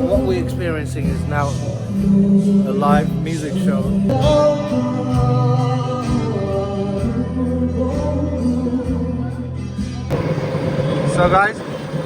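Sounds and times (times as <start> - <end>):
person singing: 0.0 - 10.1
instrumental backing: 0.0 - 10.2
steady bass line: 0.0 - 10.3.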